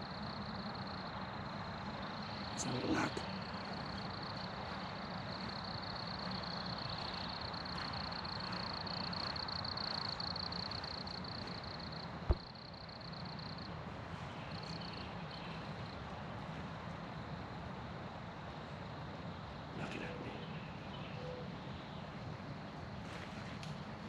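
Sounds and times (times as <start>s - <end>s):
high pulsing insect trill: 0.0s - 21.1s.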